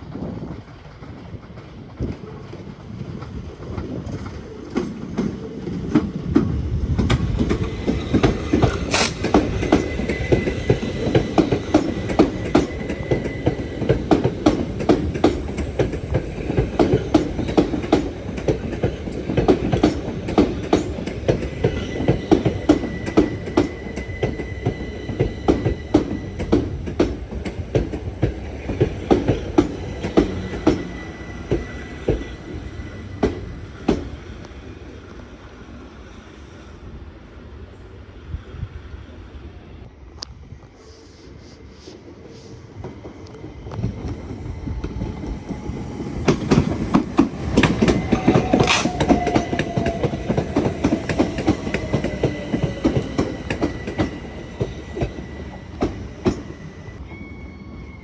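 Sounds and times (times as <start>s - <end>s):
train wheels clattering on rails: 0.0s - 35.3s, 42.3s - 57.0s.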